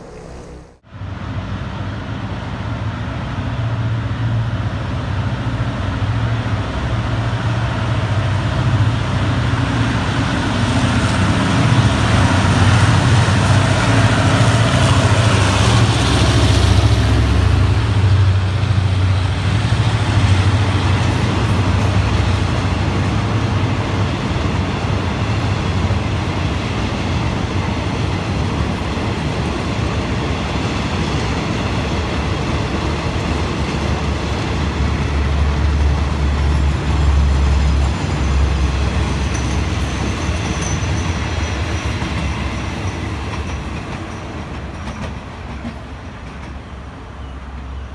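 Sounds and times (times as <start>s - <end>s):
diesel locomotive engine drone: 0.0s - 47.9s
train wheels on rails: 0.0s - 47.9s.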